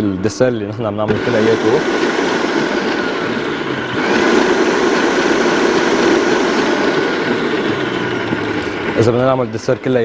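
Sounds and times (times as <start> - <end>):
stand mixer motor whining: 1.0 - 10.0.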